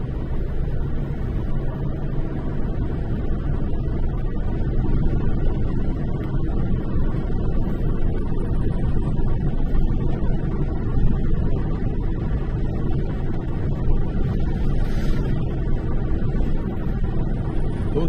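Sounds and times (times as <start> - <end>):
car interior road rumble: 0.0 - 18.0.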